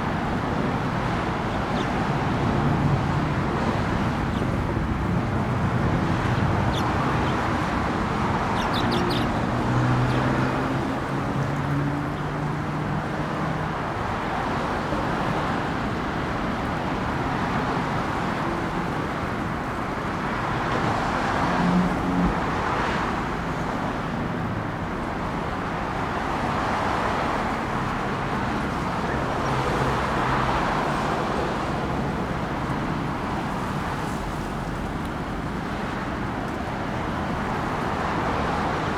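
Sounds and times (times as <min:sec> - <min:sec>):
passing cars: 0:00.0 - 0:38.9.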